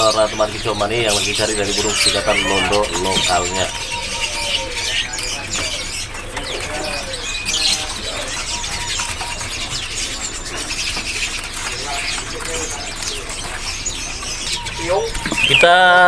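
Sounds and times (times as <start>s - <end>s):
songbirds chirping and twittering: 0.0s - 16.0s.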